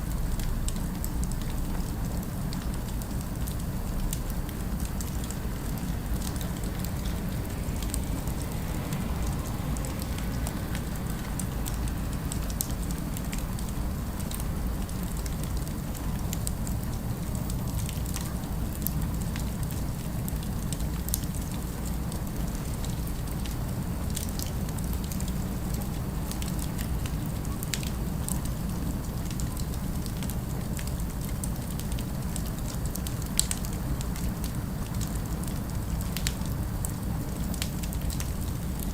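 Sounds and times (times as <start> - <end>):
fire low rumble: 0.0 - 38.9
fire pops and crackles: 0.1 - 38.9.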